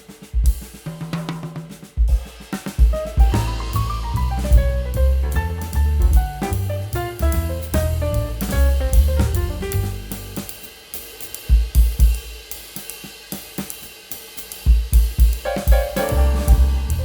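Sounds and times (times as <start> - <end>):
drum kit and cymbals: 0.0 - 17.0.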